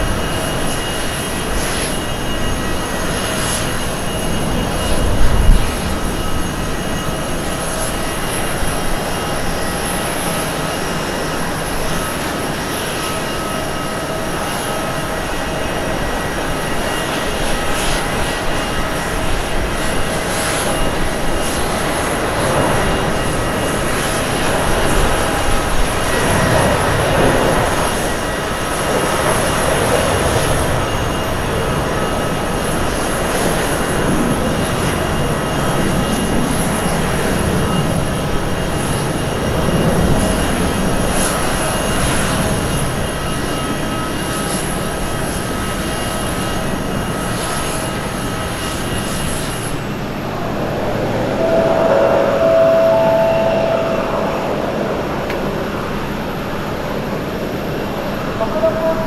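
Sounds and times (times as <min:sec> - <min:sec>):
jet engines at takeoff power: 0:00.0 - 0:59.0.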